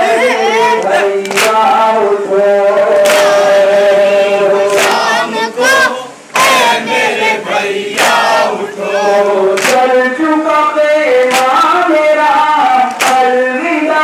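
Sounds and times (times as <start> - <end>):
men chanting in chorus: 0.0 - 14.0.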